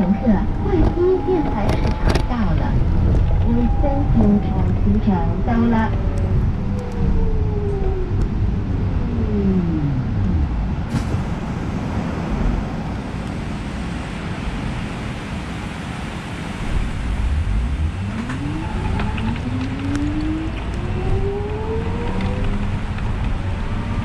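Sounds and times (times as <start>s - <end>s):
bus drivetrain whine: 0.0s - 24.0s
rain and road noise: 0.0s - 24.0s.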